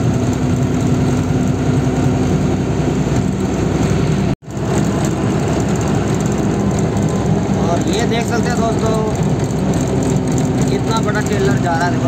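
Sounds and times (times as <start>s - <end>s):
road noise: 0.0s - 12.0s
truck engine cruising: 0.0s - 12.0s.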